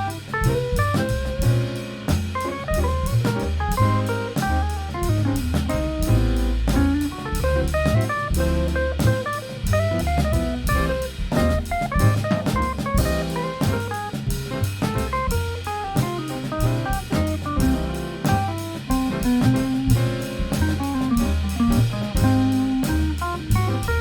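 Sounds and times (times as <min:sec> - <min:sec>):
jazz combo playing: 0:00.0 - 0:24.0.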